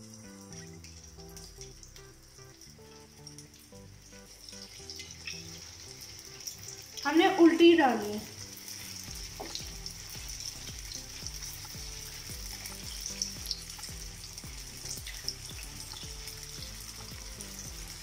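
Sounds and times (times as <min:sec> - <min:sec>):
deep-frying sizzle and pops: 0:00.0 - 0:18.0
soft background music with beat: 0:00.0 - 0:18.0.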